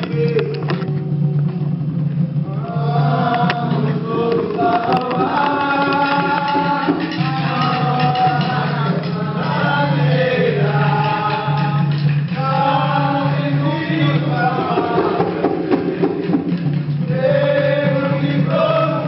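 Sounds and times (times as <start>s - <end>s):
hand drumming: 0.0s - 19.0s
group chanting: 2.4s - 19.0s.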